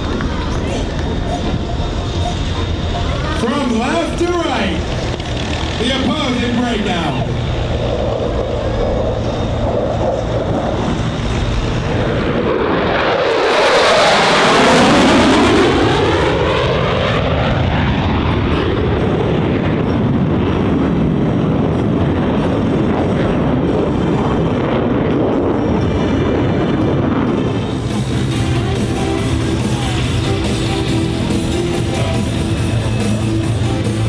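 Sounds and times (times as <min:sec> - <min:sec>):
jet engines passing by: 0:00.0 - 0:34.0.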